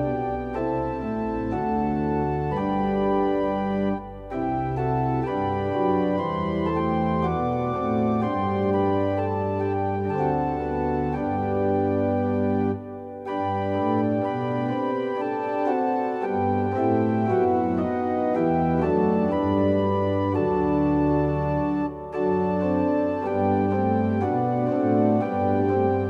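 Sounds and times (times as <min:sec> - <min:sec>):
electronic keyboard organ chords: 0:00.0 - 0:26.0.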